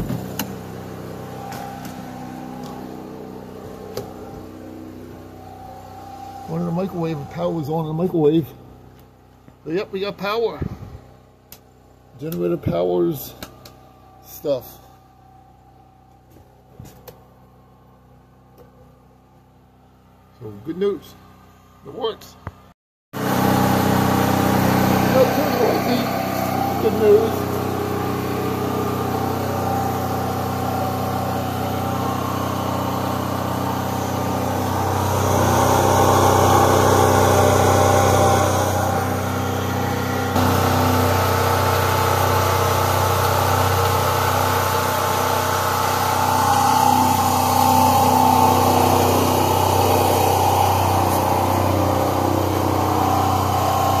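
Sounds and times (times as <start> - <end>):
generator engine running: 0.0 - 54.0.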